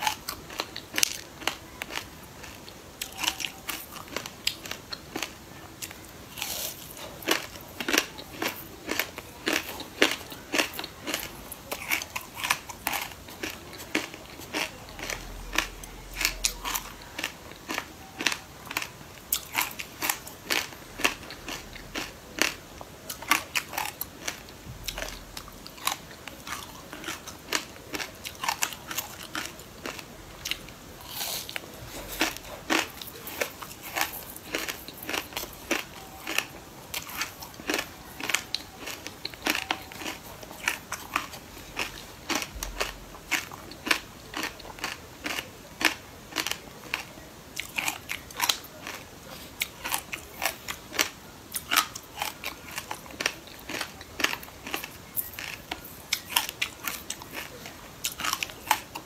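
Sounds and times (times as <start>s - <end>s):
crunchy chewing of seeds: 0.0s - 59.0s.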